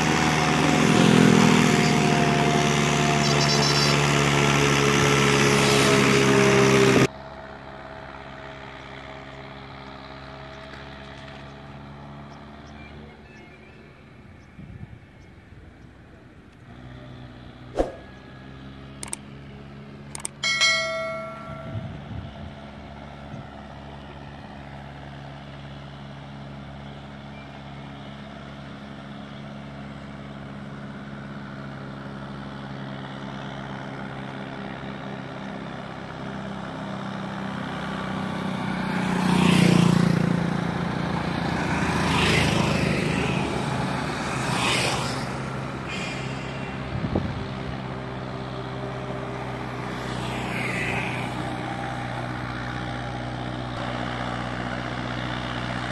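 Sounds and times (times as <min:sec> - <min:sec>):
motorcycles passing: 0:00.0 - 0:55.9
tractor diesel engine running: 0:00.0 - 0:55.9.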